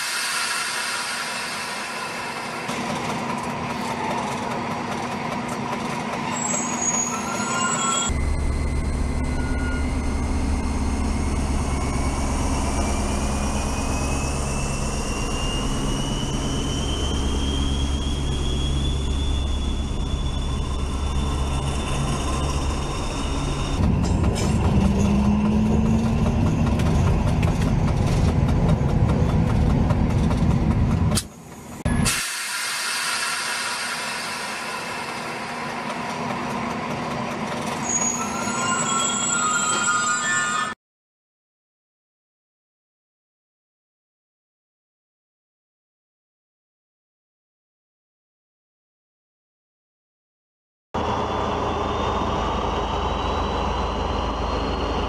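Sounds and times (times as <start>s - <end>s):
train rumble: 0.0s - 40.4s, 51.0s - 55.0s
rising train whine: 0.0s - 40.8s, 51.0s - 55.0s.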